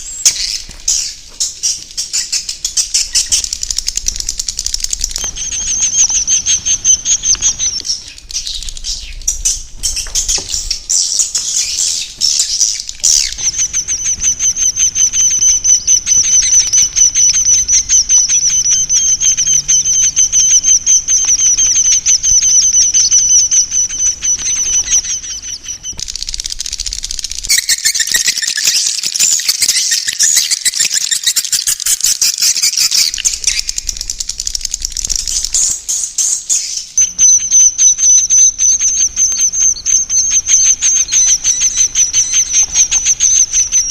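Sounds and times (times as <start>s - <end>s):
swiftlets chirping rapidly: 0.0s - 43.9s.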